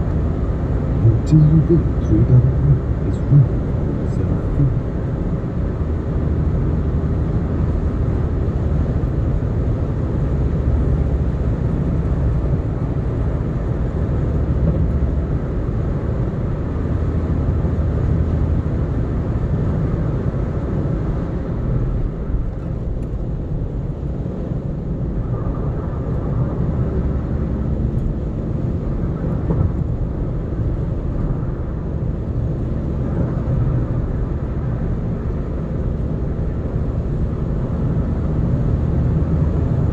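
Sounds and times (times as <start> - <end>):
car engine hum: 0.0 - 39.9.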